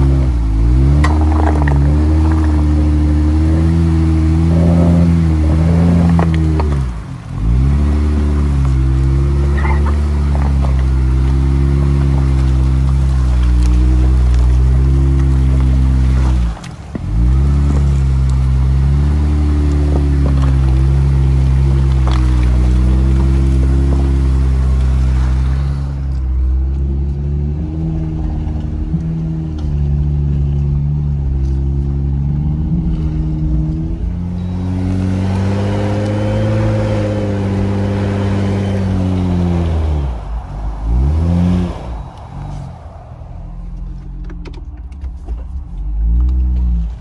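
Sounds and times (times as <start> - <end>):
engine revving under load: 0.0 - 44.2.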